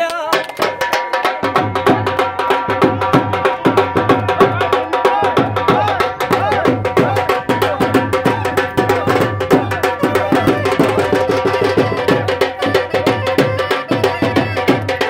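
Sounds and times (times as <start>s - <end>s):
dhol drum beating: 0.0s - 15.0s
held melody: 0.5s - 15.0s.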